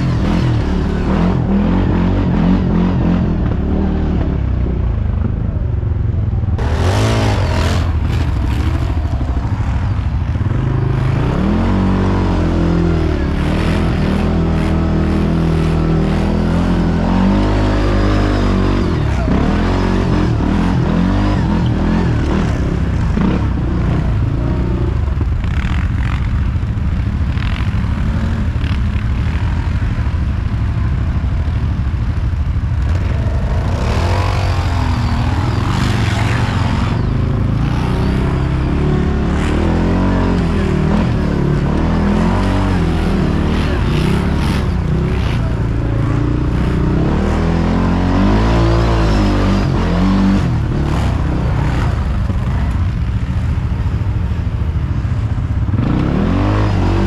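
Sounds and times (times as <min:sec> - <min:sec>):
quad bike engine revving in mud: 0:00.0 - 0:04.9, 0:06.6 - 0:26.5, 0:32.8 - 0:53.1, 0:55.6 - 0:57.0.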